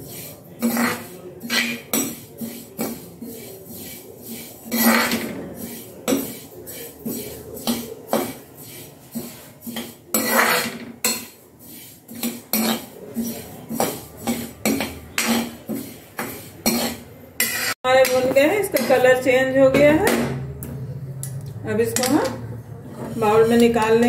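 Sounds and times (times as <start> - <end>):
metal ladle scraping a pan: 0.0 - 20.2, 21.8 - 24.0.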